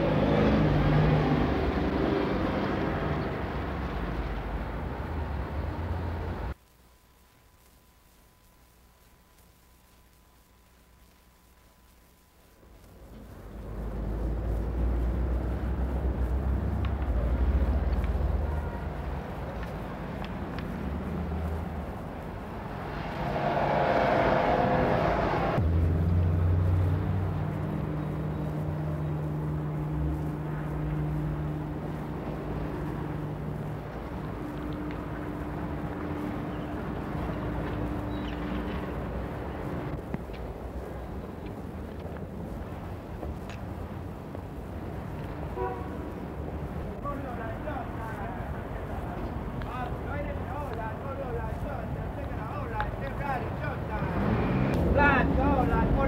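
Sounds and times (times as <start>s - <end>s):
city street traffic: 0.0s - 6.6s, 12.8s - 56.0s
vehicle engine low hum: 0.0s - 6.6s, 8.8s - 56.0s.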